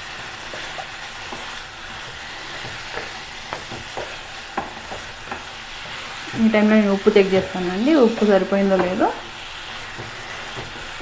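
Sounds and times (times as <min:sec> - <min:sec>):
chicken sizzling in oil: 0:00.0 - 0:11.0
spoon scraping a pan: 0:00.1 - 0:11.0.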